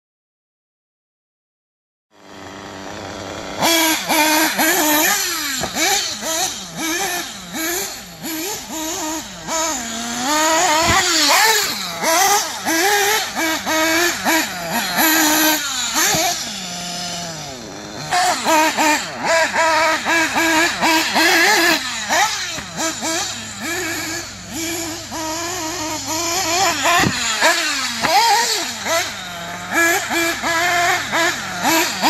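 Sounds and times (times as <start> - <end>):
model buggy engine revving: 2.2 - 32.0.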